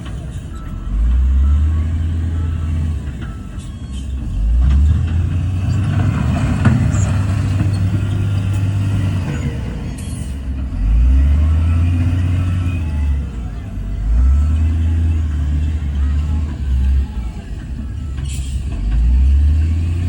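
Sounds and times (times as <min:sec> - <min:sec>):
heavy diesel machinery engines: 0:00.0 - 0:20.0.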